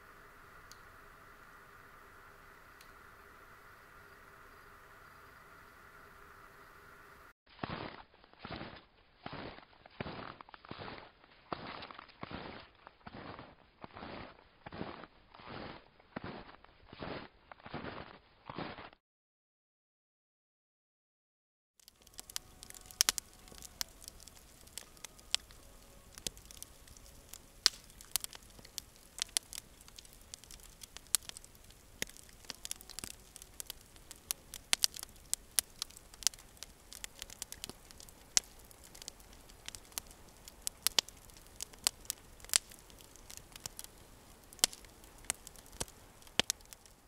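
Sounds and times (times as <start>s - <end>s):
campfire crackling and popping: 0.0s - 16.7s, 21.8s - 47.0s.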